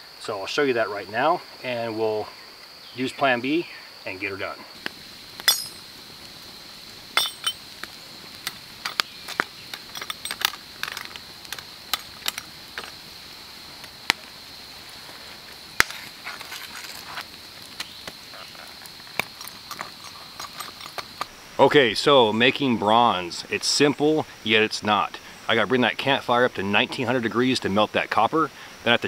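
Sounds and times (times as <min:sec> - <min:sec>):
campfire crackling and popping: 0:04.7 - 0:29.0.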